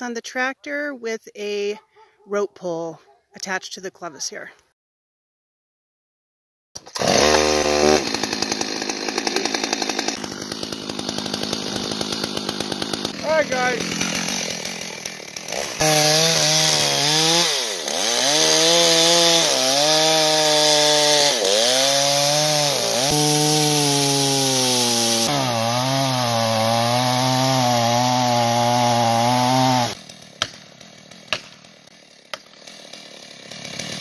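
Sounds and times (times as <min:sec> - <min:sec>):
chainsaw cutting wood: 0:06.8 - 0:34.0.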